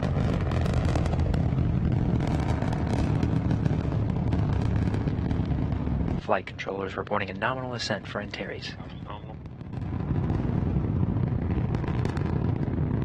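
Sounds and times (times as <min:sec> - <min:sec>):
rocket engines rumbling: 0:00.0 - 0:13.0.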